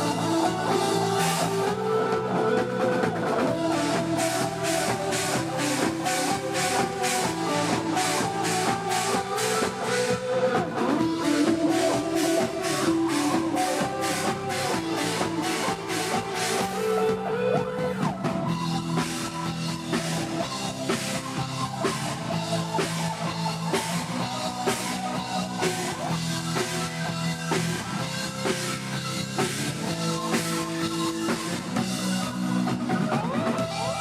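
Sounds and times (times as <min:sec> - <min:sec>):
bass guitar: 0:00.0 - 0:34.0
drum kit: 0:00.0 - 0:34.0
electric guitar: 0:00.0 - 0:34.0.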